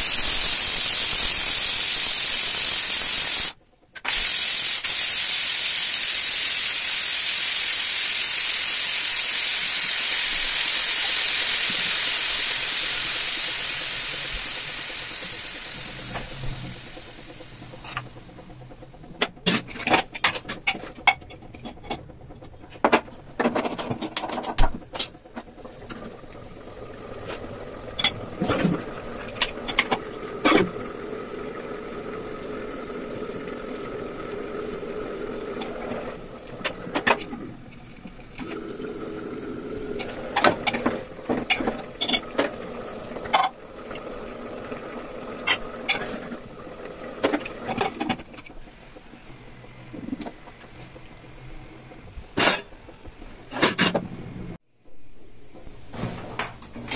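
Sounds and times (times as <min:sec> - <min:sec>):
steady hum: 0:09.5 - 0:56.9.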